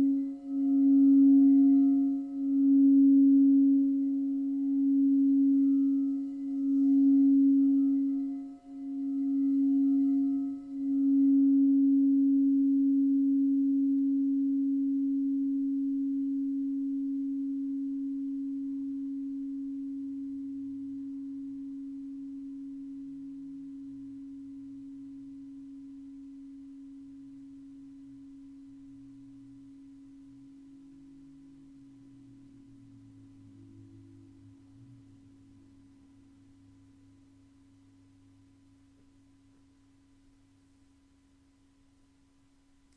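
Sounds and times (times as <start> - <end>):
singing bowl ringing: 0.0 - 39.5.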